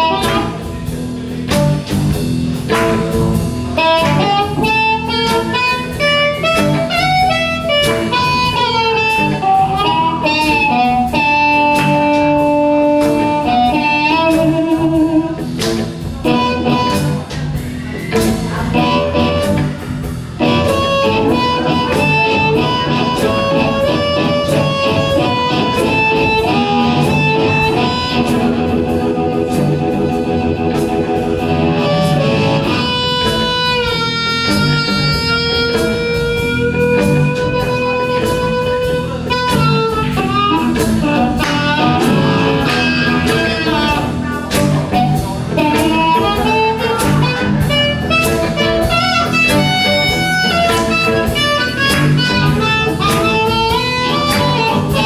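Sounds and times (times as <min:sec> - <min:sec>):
live blues band: 0:00.0 - 0:55.0
amplified harmonica: 0:02.5 - 0:55.0.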